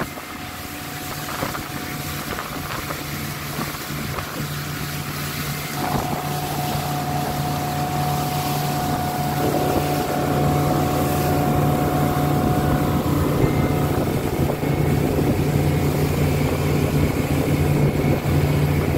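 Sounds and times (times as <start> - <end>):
boat engine drone: 0.0 - 18.9
thin steady whine: 0.0 - 18.9
water rushing along hull: 0.0 - 18.9
wind on microphone: 0.0 - 18.9.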